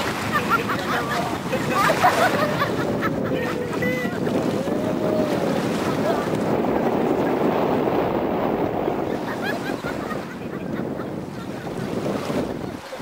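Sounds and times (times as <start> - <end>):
sea water splashing: 0.0 - 13.0
wind buffeting microphone: 0.0 - 13.0.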